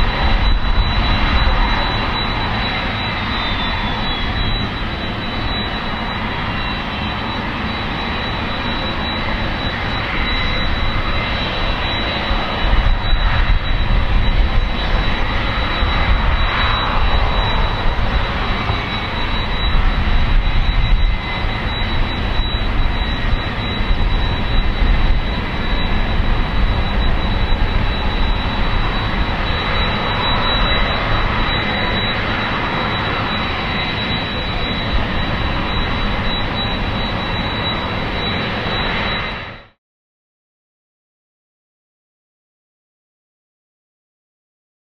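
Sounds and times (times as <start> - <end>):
jet engines running: 0.0 - 39.8.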